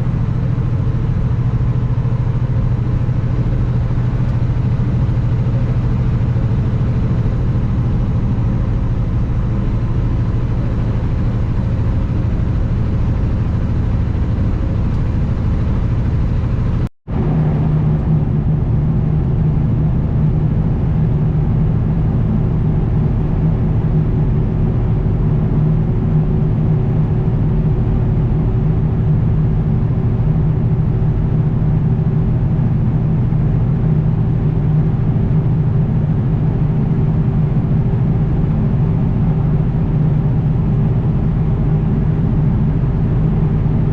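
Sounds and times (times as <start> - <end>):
truck diesel engine droning: 0.0 - 43.9.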